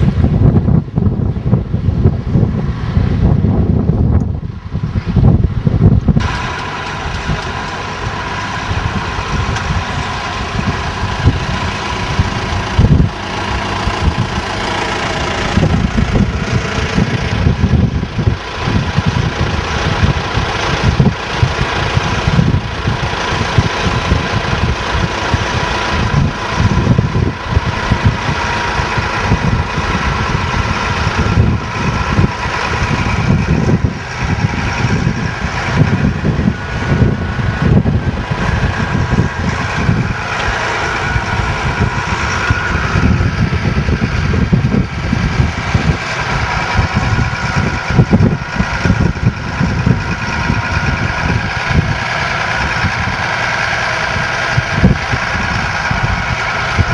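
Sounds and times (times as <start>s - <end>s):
low rumble: 0.0s - 56.9s
tractor engine running: 0.0s - 56.9s.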